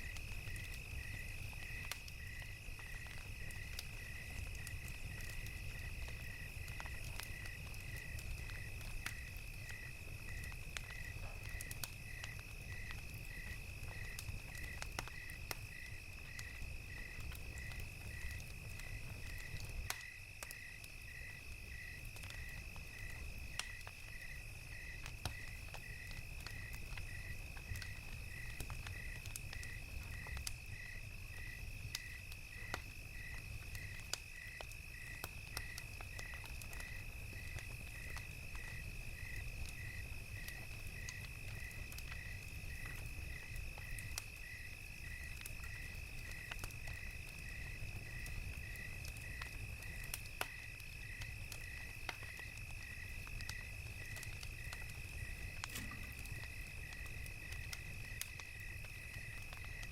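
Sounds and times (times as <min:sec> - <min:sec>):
crickets trilling: 0:00.0 - 0:59.9
pulsed cricket chirp: 0:00.0 - 0:59.9
wood fire crackling: 0:00.0 - 0:59.9.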